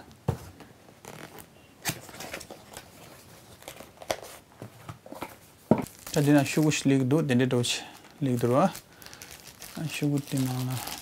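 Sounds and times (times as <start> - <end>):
cardboard packaging rustling: 1.0 - 7.1, 8.0 - 11.0.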